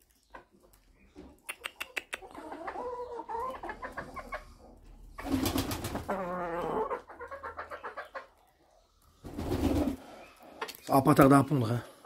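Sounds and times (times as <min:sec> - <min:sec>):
chickens clucking: 0:00.1 - 0:12.0.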